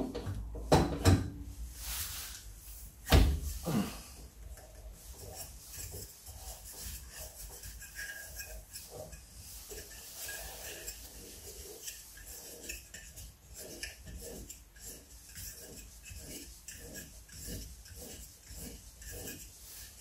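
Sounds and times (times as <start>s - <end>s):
hand rubbing wood: 1.6s - 20.0s.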